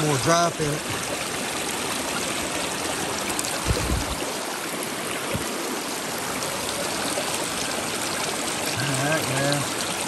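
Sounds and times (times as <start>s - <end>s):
water rushing through sluice box: 0.0s - 10.0s.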